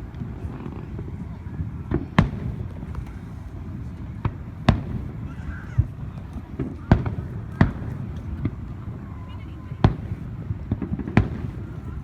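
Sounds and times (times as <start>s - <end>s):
fireworks bangs: 0.0s - 12.0s
low background rumble: 0.0s - 12.0s.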